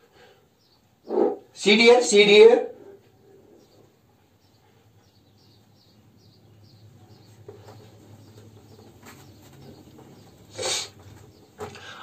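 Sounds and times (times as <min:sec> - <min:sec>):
small bird chirping: 0:00.5 - 0:01.6, 0:03.0 - 0:12.0.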